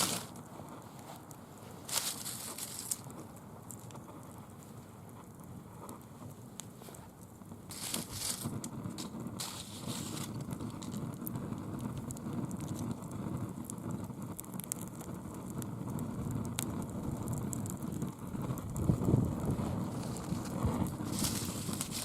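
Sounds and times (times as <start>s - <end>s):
fire crackles and pops: 0.0s - 22.0s
rushing flame: 0.0s - 22.0s.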